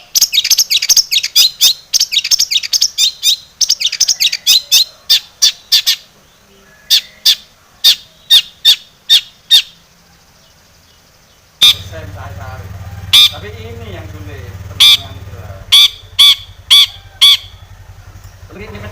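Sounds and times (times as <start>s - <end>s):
bird chirping: 0.0s - 18.9s.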